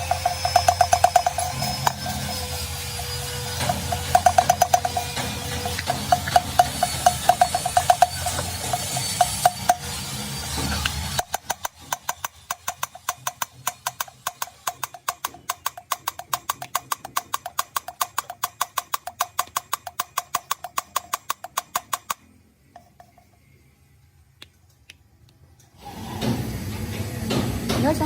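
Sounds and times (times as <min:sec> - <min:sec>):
rapid ringing taps: 0:00.0 - 0:23.4.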